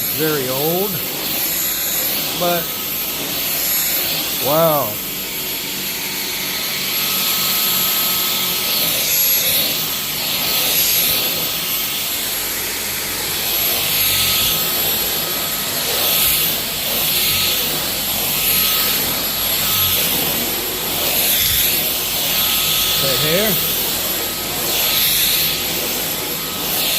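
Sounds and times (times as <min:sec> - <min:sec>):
stick vacuum whining: 0:00.0 - 0:26.9.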